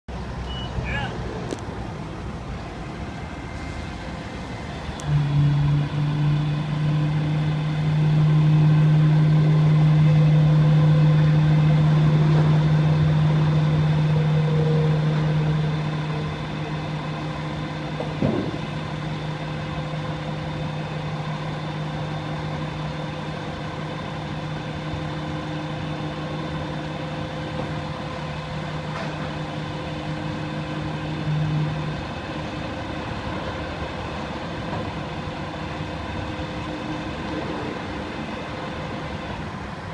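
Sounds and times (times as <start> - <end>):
dump truck engine droning: 0.1 - 39.9.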